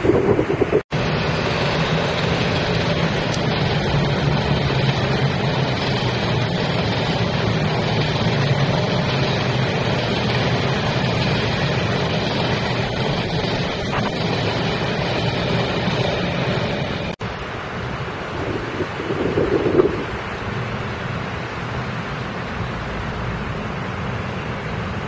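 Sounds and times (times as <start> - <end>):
low hum: 0.0 - 25.0
train wheels rumbling on rail: 0.0 - 25.0.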